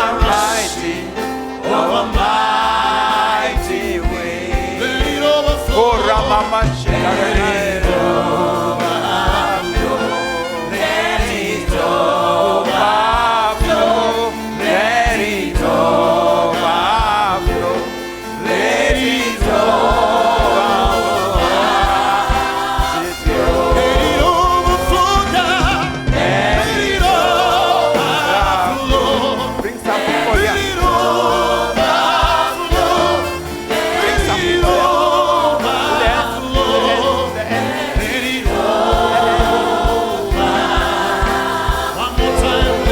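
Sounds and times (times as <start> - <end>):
band with steady beat: 0.0 - 42.9
voices singing gospel: 0.0 - 42.9.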